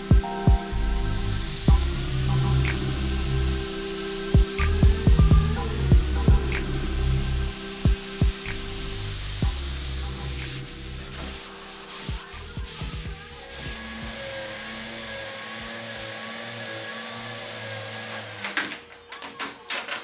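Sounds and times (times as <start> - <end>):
orbital sander whirring: 0.0 - 18.6.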